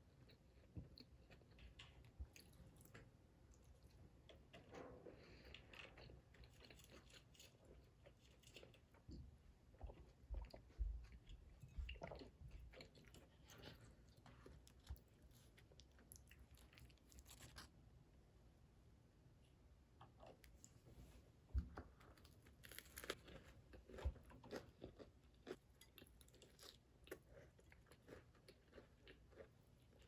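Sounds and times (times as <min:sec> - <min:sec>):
person chewing and crunching: 0:00.0 - 0:09.1, 0:09.7 - 0:17.7, 0:21.9 - 0:30.0.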